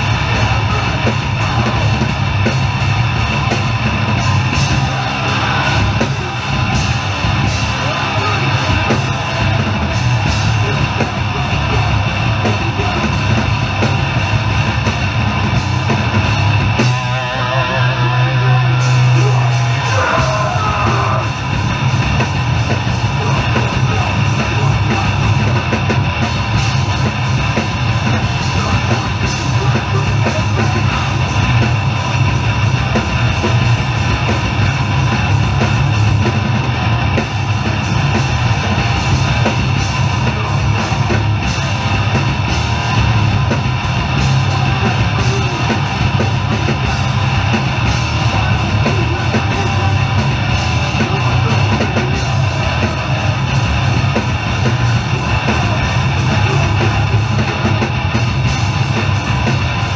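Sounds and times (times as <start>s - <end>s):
distorted bass and guitar: 0.0s - 59.9s
pounding drum kit: 0.0s - 59.9s.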